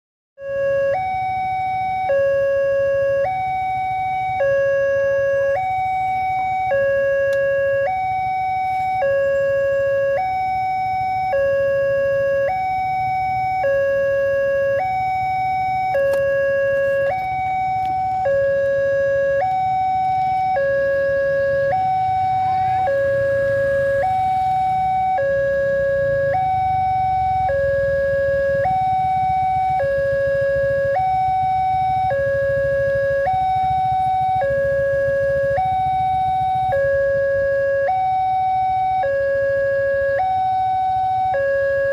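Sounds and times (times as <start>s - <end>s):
level crossing two-tone alarm: 0.4s - 41.9s.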